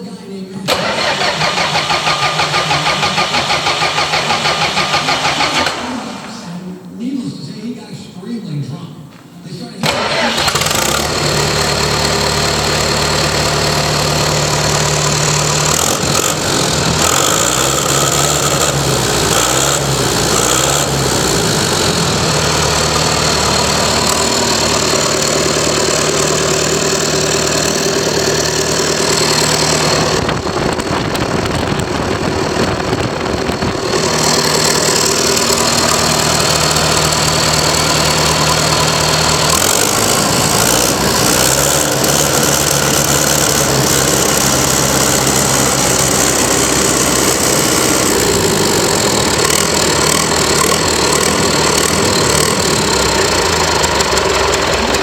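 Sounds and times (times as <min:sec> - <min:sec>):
diesel engine running: 0:00.0 - 0:06.9, 0:09.8 - 0:55.0.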